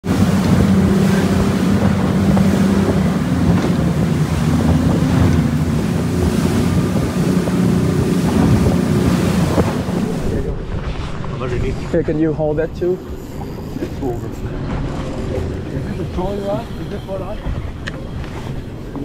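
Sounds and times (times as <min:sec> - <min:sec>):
outboard engines droning: 0:00.0 - 0:19.0
water rushing and spray: 0:00.0 - 0:19.0
wind buffeting microphone: 0:00.0 - 0:19.0.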